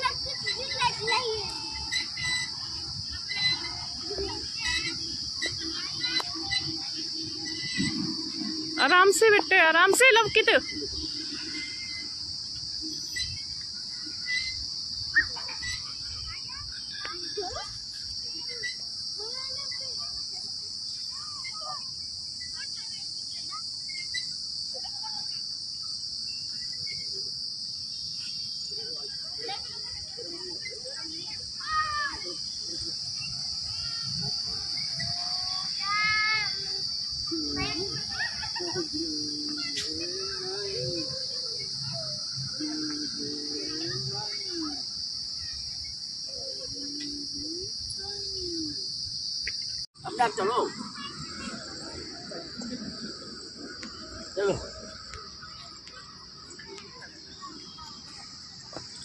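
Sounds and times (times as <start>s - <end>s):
insects buzzing: 0.0s - 59.0s.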